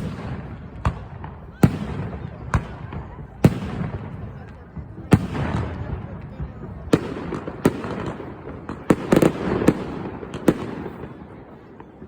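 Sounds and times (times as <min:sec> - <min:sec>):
fireworks bangs: 0:00.0 - 0:12.0
fireworks cracks: 0:00.0 - 0:12.0.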